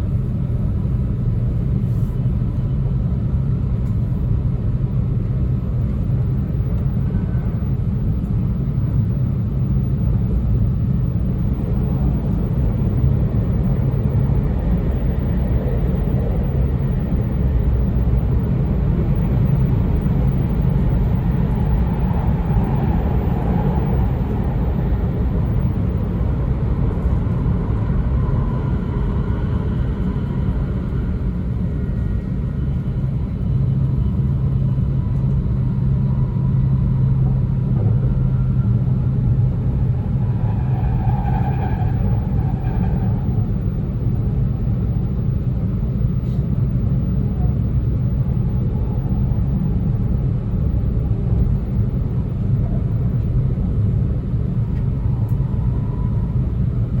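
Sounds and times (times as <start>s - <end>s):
low hum: 0.0s - 57.0s
train wheels rumbling on track: 0.0s - 57.0s.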